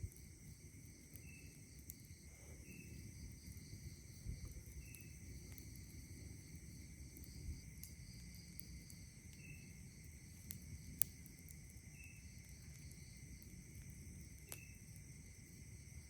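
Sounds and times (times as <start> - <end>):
campfire crackles and pops: 0.0 - 16.0
night insects chirring: 0.0 - 16.0.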